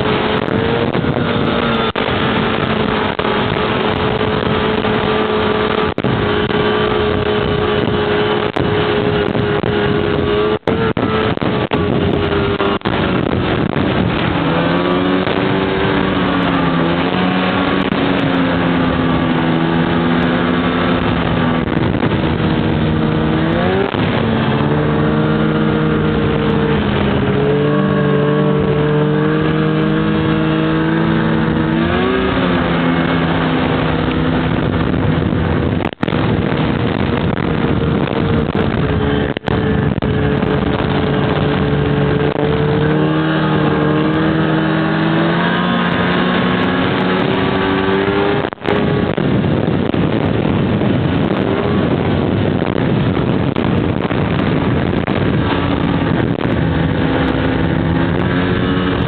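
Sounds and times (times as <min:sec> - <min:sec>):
rushing noise: 0:00.0 - 0:59.0
snowmobile engine running: 0:00.0 - 0:59.0.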